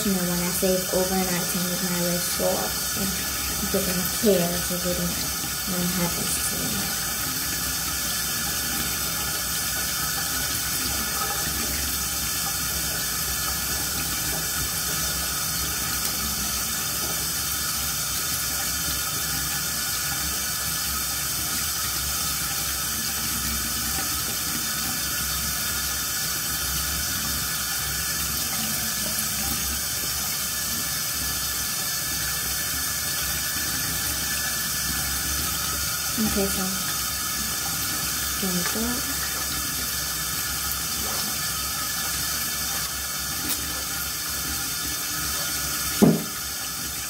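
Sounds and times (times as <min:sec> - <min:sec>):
tap water running into sink: 0:00.0 - 0:47.0.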